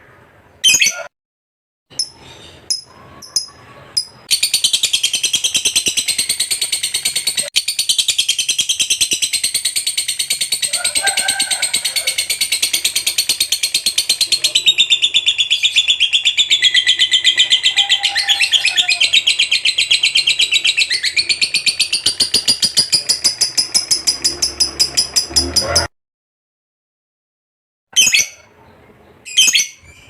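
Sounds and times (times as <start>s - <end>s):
lovebird chattering song: 0.6s - 1.1s, 2.0s - 25.9s, 28.0s - 28.5s, 29.3s - 30.0s.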